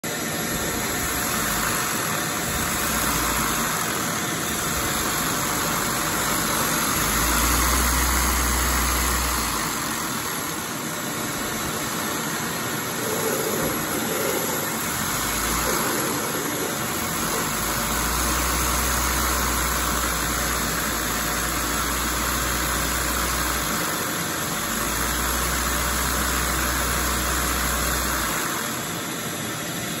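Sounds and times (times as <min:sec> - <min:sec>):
shop vacuum running: 0:00.0 - 0:30.0.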